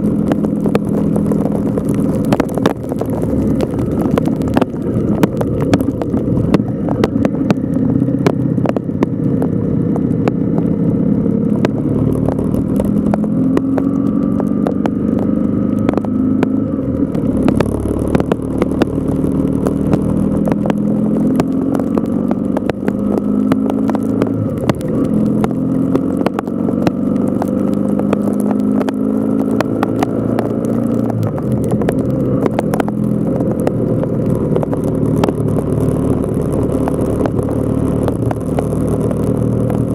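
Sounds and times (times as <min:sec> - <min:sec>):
low wind rumble: 0:00.0 - 0:39.9.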